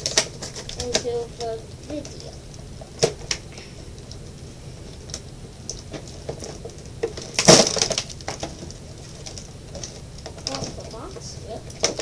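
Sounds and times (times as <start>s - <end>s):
packaging crackling: 0.0s - 12.0s.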